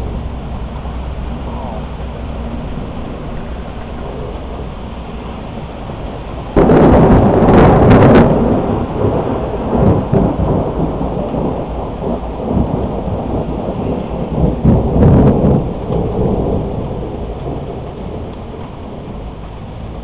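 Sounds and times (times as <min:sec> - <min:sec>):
rain falling: 0:00.0 - 0:20.0
thunder rumbling: 0:00.0 - 0:20.0.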